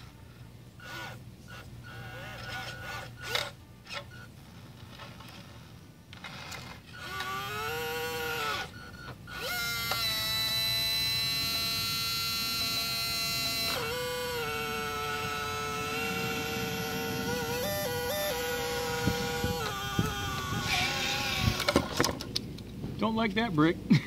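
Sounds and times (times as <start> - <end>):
electric motor whining: 0.8 - 22.1.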